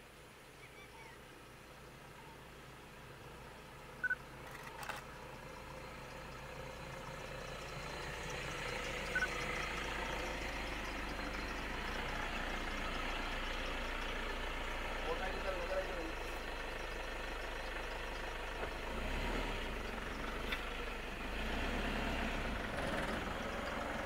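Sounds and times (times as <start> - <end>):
vehicle engine idling: 1.6 - 24.0.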